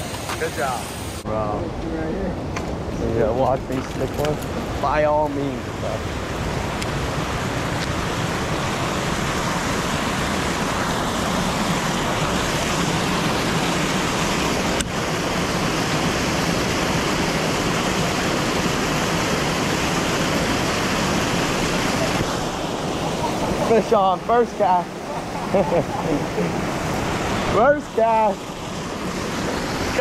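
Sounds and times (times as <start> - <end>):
waterfall rushing over rocks: 3.4 - 30.0.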